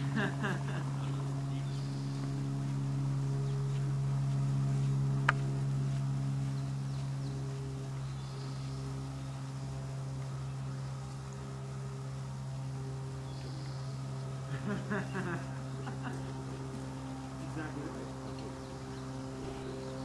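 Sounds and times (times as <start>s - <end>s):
low buzzing hum: 0.0s - 20.0s.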